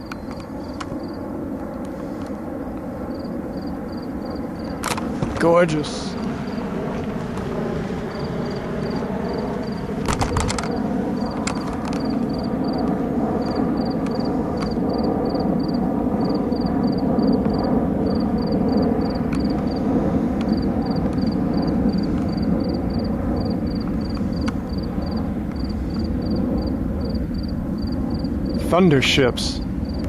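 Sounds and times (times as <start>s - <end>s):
jet aircraft roaring overhead: 0.0s - 30.0s.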